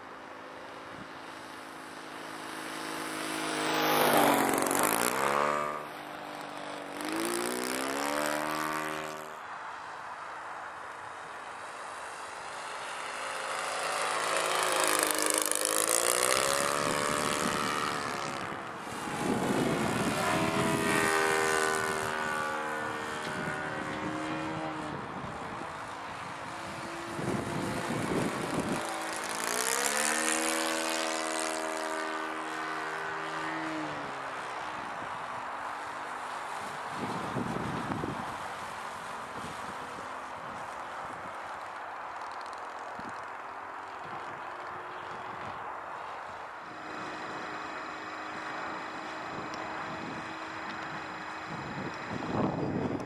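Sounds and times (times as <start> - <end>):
model plane engine flying by: 0.0 - 53.0.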